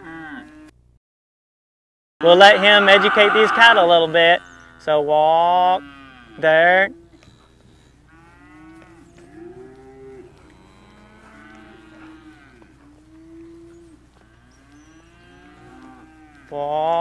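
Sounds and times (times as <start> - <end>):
cattle mooing: 2.2 - 17.0.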